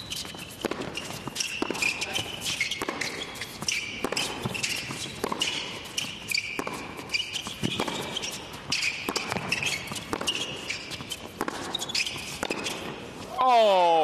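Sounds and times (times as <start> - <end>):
shoes squeaking on court: 0.0 - 13.3
racket striking ball: 0.6 - 13.0.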